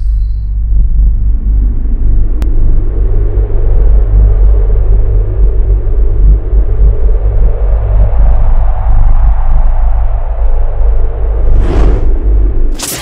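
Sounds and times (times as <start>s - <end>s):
deep rumble: 0.0s - 13.0s.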